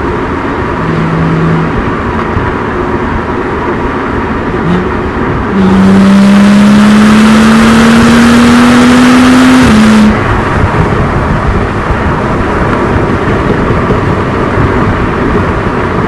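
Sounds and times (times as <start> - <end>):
car exhaust under hard acceleration: 0.0 - 16.0.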